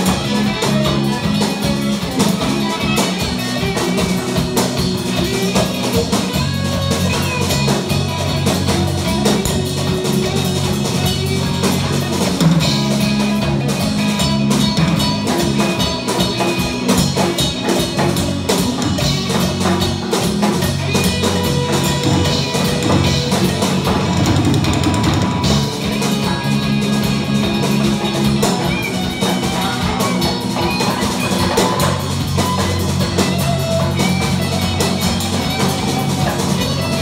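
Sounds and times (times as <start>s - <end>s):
drum hits: 0.0s - 37.0s
live rock band playing: 0.0s - 37.0s
moving bass line: 0.0s - 37.0s.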